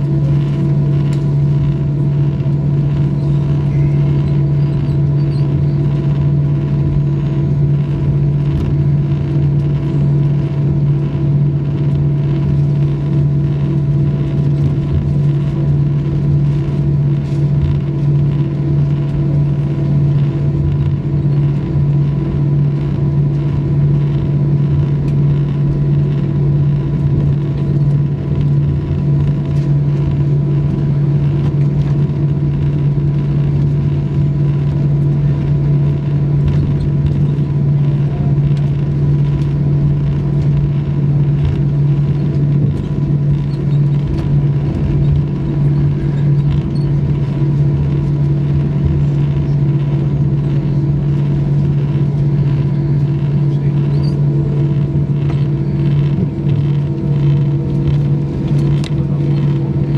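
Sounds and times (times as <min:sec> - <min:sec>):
airframe rolling rumble: 0:00.0 - 0:59.9
jet engines idling drone: 0:00.0 - 0:59.9.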